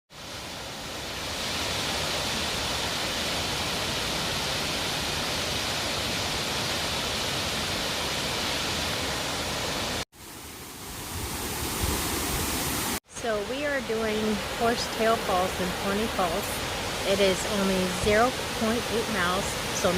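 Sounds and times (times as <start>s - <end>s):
waterfall roaring: 0.2s - 10.0s, 10.7s - 19.9s.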